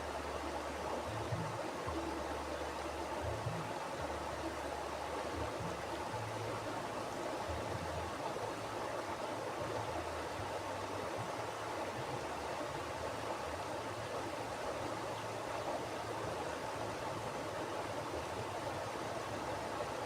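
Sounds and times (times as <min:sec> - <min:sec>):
river flowing over rocks: 0:00.0 - 0:20.0.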